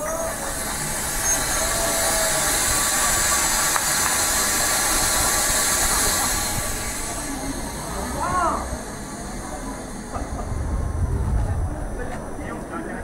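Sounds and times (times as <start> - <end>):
train hissing: 0.0 - 13.0.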